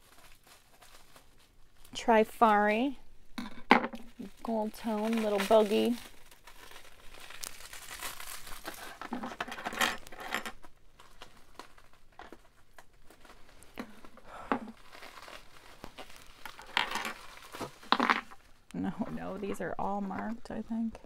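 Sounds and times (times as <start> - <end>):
wrapping crinkling and rustling: 0.0 - 3.1, 4.0 - 21.0.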